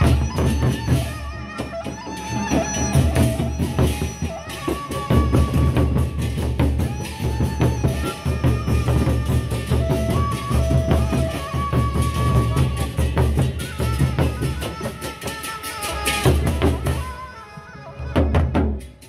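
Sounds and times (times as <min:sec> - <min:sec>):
barrel drums beating: 0:00.0 - 0:17.2.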